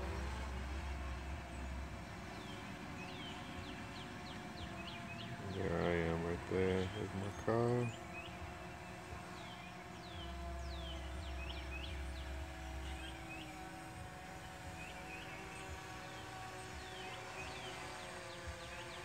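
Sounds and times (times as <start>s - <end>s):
birds chirping: 0.0s - 19.0s
faint steady hum: 0.0s - 19.0s.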